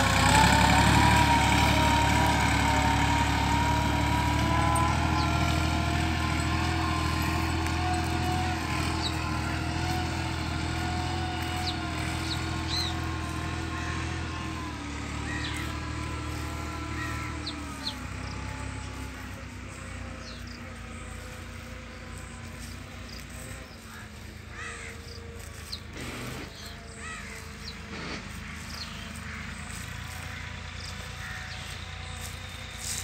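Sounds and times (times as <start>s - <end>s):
birds chirping: 0.0s - 33.0s
crows cawing: 2.0s - 19.5s, 23.1s - 33.0s.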